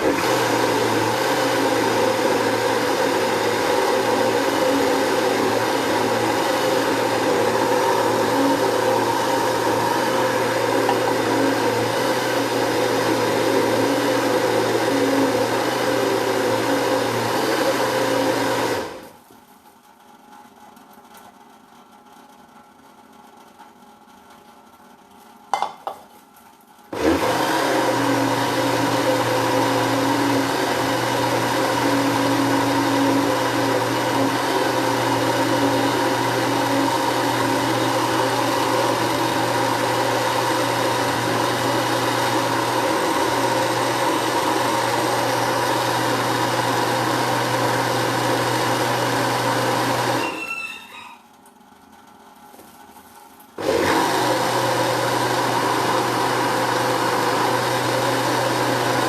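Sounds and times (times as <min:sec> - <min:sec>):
electric blender humming: 0:00.0 - 0:19.1, 0:26.9 - 0:51.0, 0:53.6 - 0:59.0.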